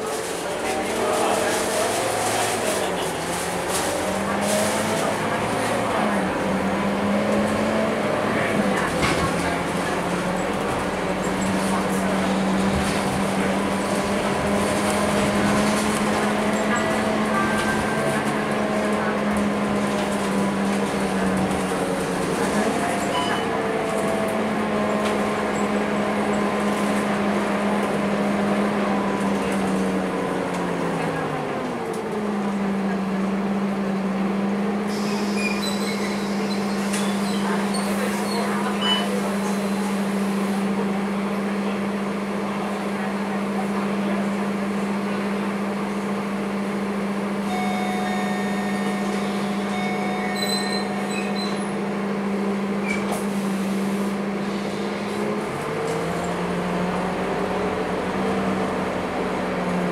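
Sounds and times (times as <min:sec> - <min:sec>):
bus engine hum: 0:00.0 - 0:59.9.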